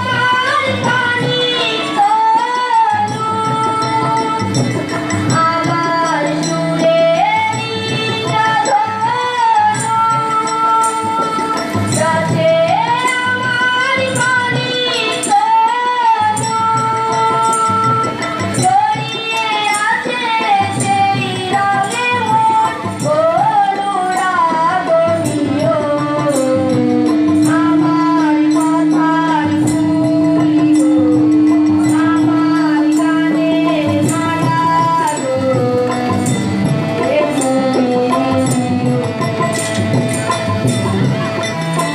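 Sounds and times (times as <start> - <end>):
woman singing: 0.0 - 41.1
harmonium: 0.0 - 41.9
jingling hand percussion: 0.0 - 41.9
tabla: 0.0 - 41.9.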